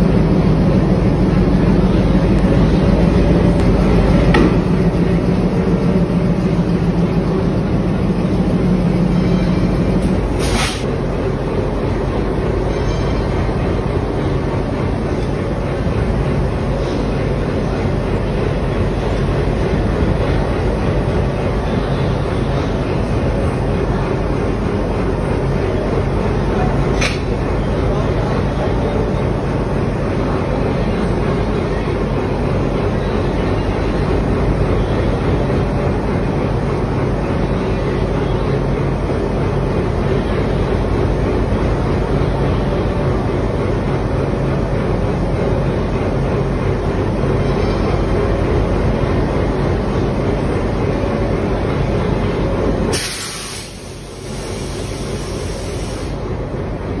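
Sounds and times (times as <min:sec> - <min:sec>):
diesel locomotive engine idling: 0:00.0 - 0:57.0.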